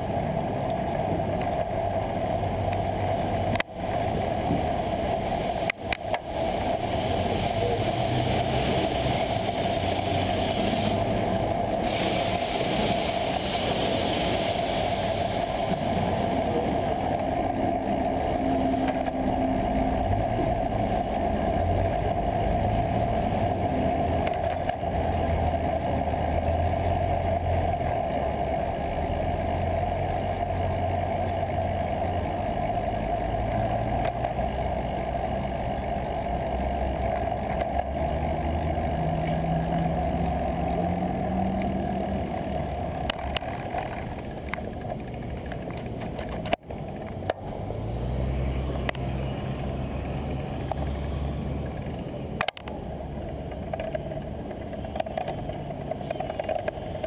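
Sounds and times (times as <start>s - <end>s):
car and truck engines humming: 0.0s - 57.0s
road and wind noise: 0.0s - 57.0s.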